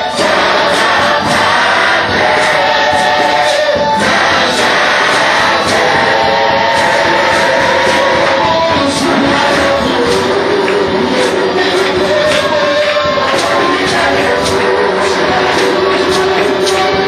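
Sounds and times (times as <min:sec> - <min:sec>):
band playing steady beat: 0:00.0 - 0:17.0
choir singing gospel song: 0:00.0 - 0:17.0.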